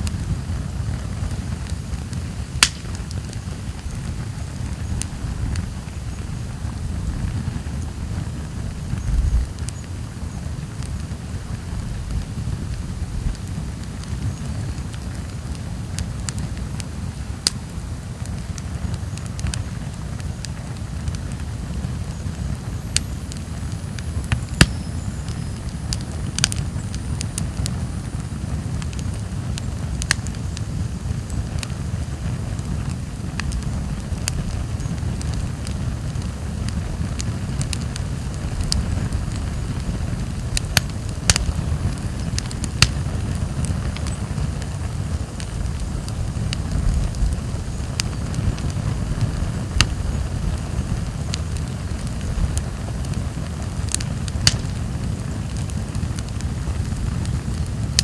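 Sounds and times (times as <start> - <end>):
burning logs crackling and popping: 0.0 - 58.0
campfire low rumble: 0.0 - 58.0.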